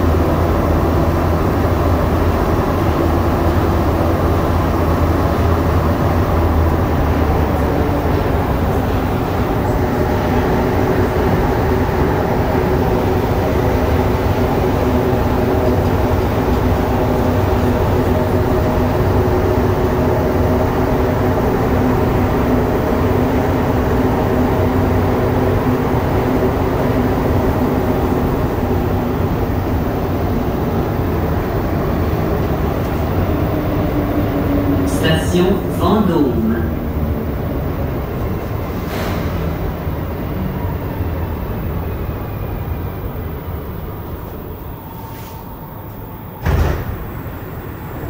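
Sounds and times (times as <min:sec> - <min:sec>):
train cabin rumble: 0:00.0 - 0:48.0.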